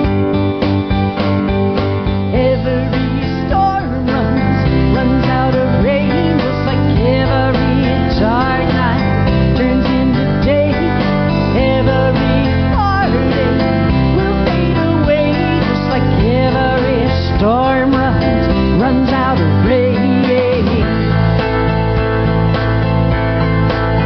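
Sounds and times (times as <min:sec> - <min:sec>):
country band music: 0:00.0 - 0:24.0
guitar bending sliding notes: 0:00.0 - 0:24.0.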